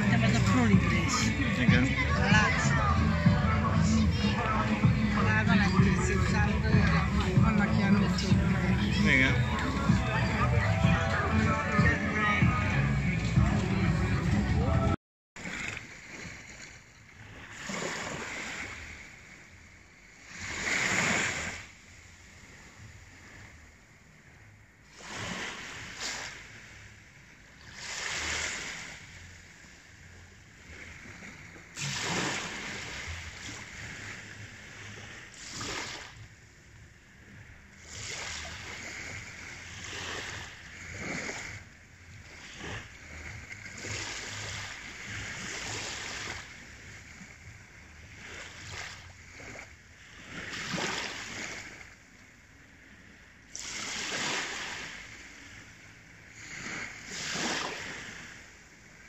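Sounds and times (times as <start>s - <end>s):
small waves lapping on sand: 0.0s - 59.0s.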